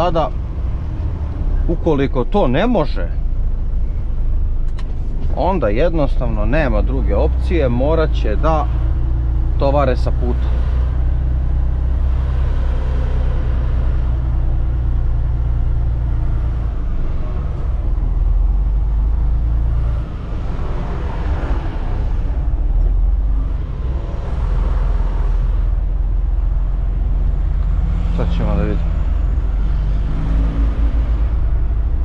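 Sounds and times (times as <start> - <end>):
truck diesel engine rumbling: 0.0 - 32.0.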